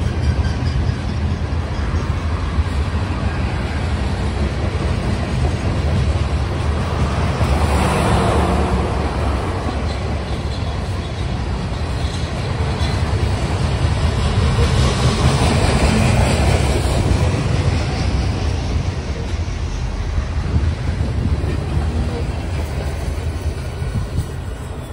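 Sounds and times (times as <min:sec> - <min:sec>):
steel wheels rumbling on rail: 0:00.0 - 0:24.9.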